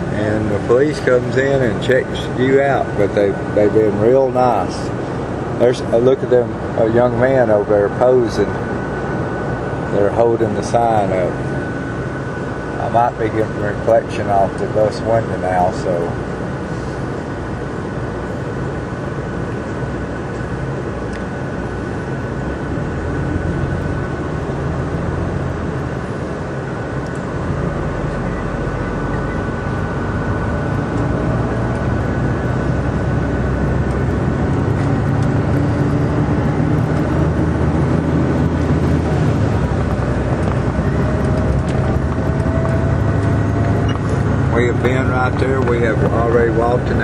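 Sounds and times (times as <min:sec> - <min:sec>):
bus engine and road noise: 0:00.0 - 0:47.0
thin steady whine: 0:00.0 - 0:47.0.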